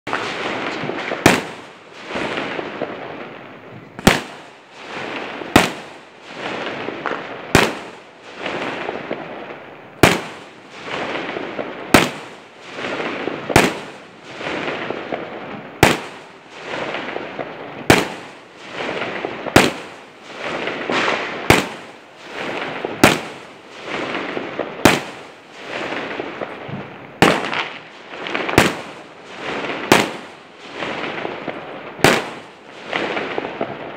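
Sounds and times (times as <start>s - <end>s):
fireworks rushing noise: 0.0s - 33.9s
fireworks bangs: 0.1s - 33.9s.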